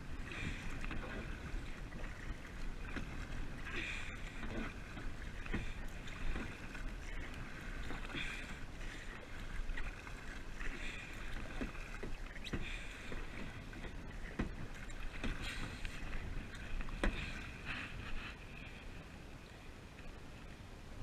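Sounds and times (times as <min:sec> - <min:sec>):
paddle strokes splashing in water: 0:00.0 - 0:19.2.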